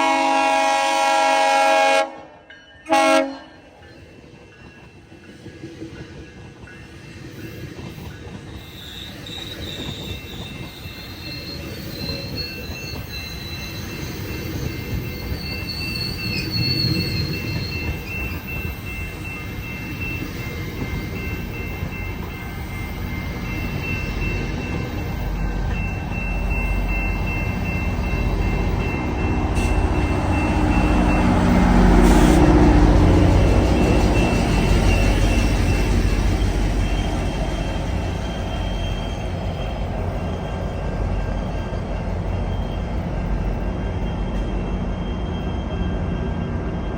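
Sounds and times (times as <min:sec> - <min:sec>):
train low rumble: 0:00.0 - 0:46.9
train wheels squealing on rails: 0:02.4 - 0:46.9.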